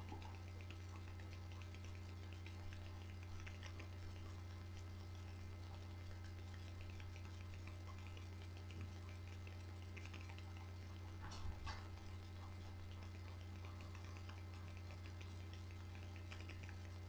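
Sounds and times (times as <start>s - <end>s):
light ticks and clicks: 0.0s - 17.0s
low electrical hum: 0.0s - 17.0s.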